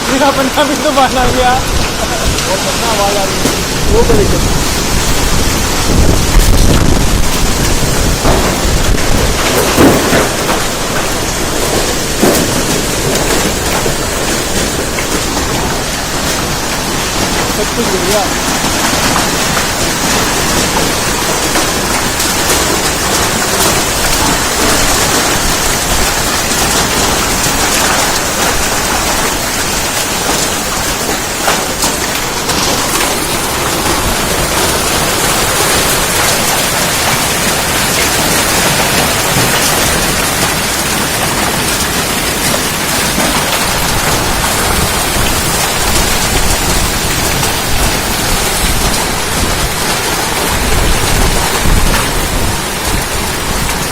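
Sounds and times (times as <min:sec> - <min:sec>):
hailstones striking: 0:00.0 - 0:53.9
heavy rain: 0:00.0 - 0:53.9.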